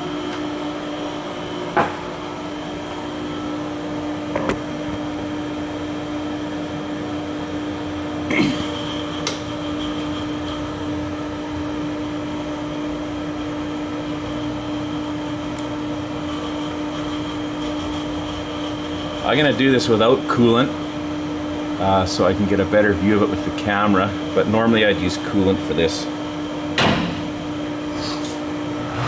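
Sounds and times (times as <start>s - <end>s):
electric machine hum: 0.0s - 29.0s.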